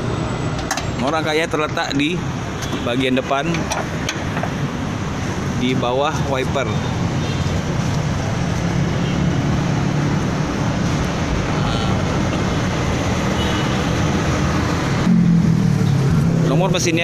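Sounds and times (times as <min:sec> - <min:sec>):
vehicle engine hum and rushing: 0:00.0 - 0:17.0.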